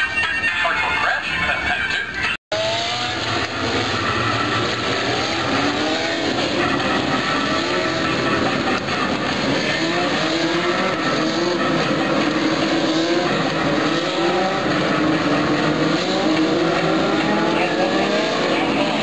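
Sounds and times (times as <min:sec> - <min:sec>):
race car engines revving: 0:01.5 - 0:19.0.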